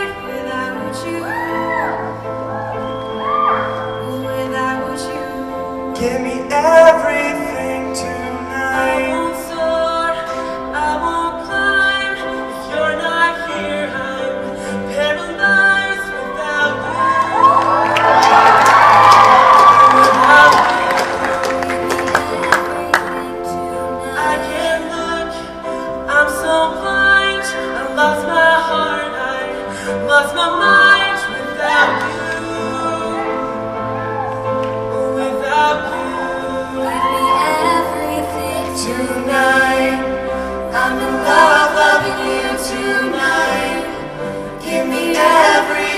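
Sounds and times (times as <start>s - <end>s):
choir singing harmonies: 0.0s - 45.9s
keyboard and band accompaniment: 0.0s - 45.9s.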